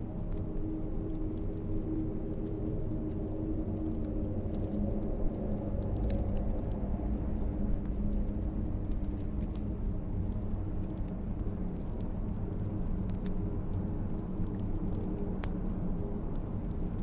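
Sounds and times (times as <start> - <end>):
steady low rumble: 0.0 - 17.0
wood fire crackling and popping: 0.0 - 17.0.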